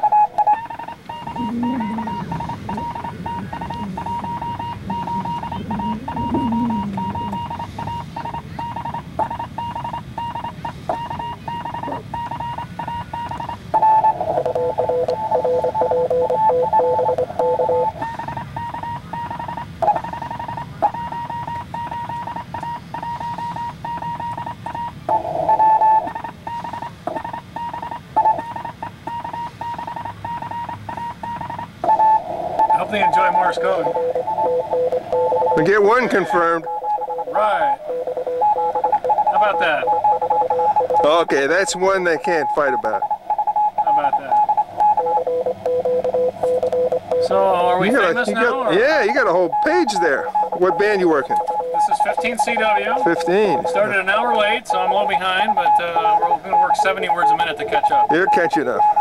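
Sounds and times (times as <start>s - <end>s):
lower-pitched morse code signal: 0.0s - 59.0s
morse code tone: 0.0s - 59.0s.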